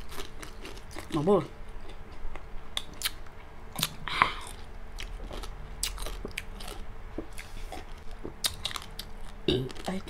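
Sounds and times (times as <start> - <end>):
chewing crispy food: 0.0 - 10.0.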